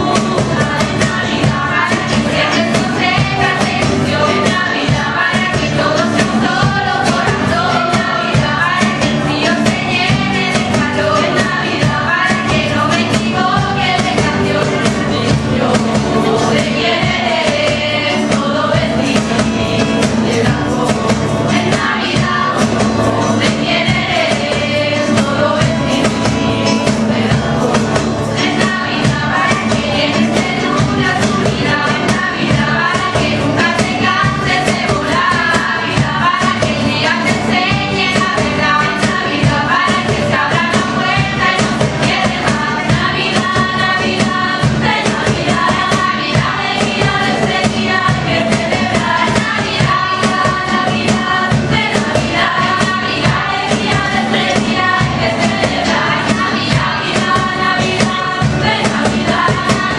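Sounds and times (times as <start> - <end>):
acoustic guitars strumming: 0.0 - 59.9
choir singing in unison: 0.0 - 59.9.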